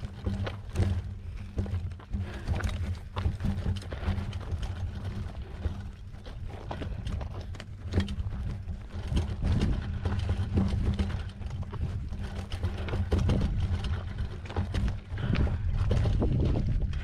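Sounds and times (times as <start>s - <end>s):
bike rattling over bumps: 0.0s - 17.0s
low rumble: 0.0s - 17.0s
tyres crunching on gravel: 0.0s - 17.0s.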